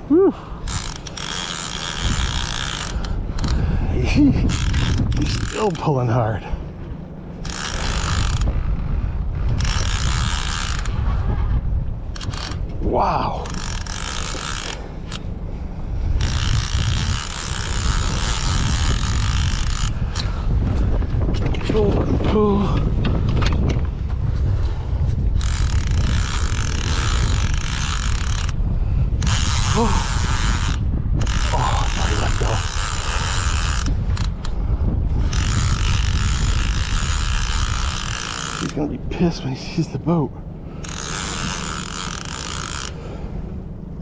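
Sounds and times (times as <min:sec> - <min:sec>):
wind buffeting microphone: 0:00.0 - 0:44.0
fishing reel clicking and creaking: 0:00.6 - 0:06.0, 0:07.4 - 0:11.1, 0:12.1 - 0:15.3, 0:16.2 - 0:23.8, 0:25.3 - 0:39.4, 0:40.8 - 0:43.2.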